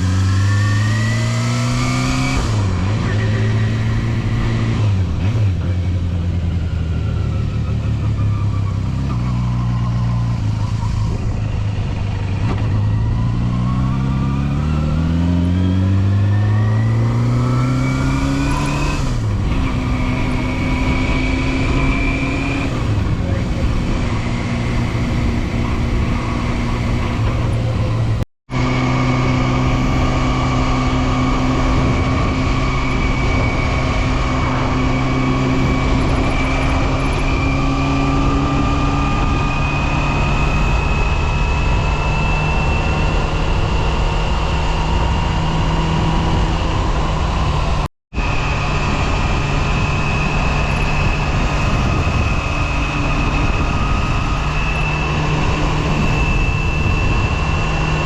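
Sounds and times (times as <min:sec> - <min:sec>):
motorcycle engine at high revs: 0:00.0 - 0:58.0
wind rushing: 0:10.5 - 0:58.0.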